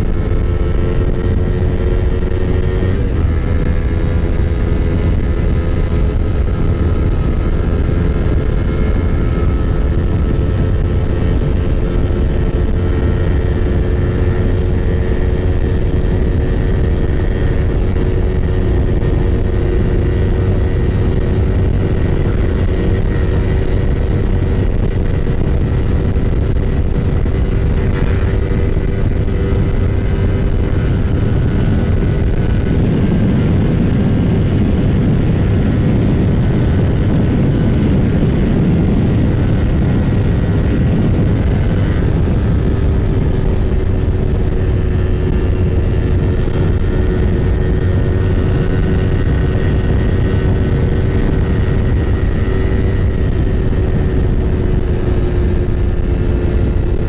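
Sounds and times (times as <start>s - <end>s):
motorcycle engine running: 0.0s - 57.0s
road noise: 0.0s - 57.0s
wind rush: 0.0s - 57.0s.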